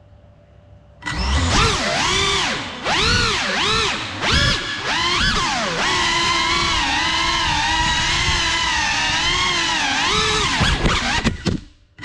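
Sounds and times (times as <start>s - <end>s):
drone propellers whining: 1.0s - 11.5s.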